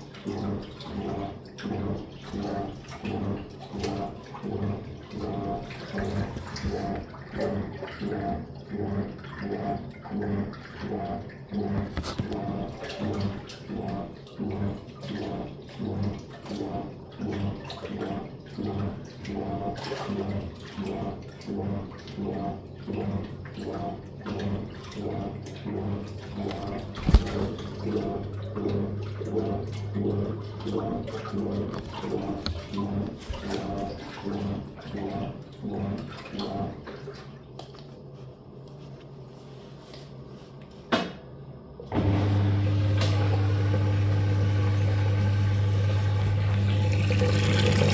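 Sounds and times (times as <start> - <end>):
drain pump humming: 0.0 - 37.9, 41.8 - 47.9.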